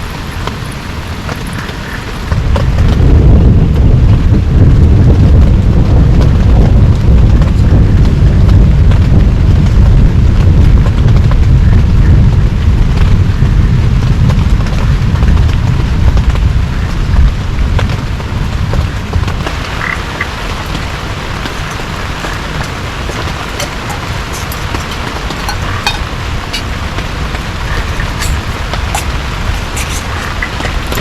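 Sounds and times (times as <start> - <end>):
heavy rain falling: 0.0 - 31.0
loud deep rumble: 0.0 - 31.0.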